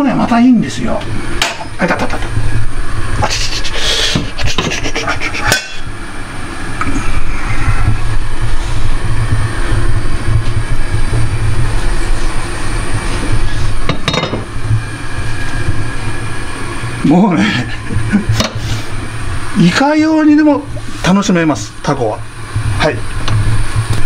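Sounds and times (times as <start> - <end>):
pot boiling hard: 0.0 - 24.0.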